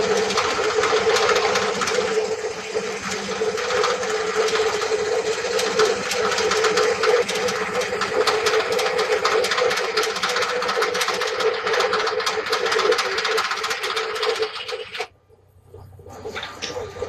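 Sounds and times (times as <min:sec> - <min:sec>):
table saw running: 0:00.0 - 0:15.1.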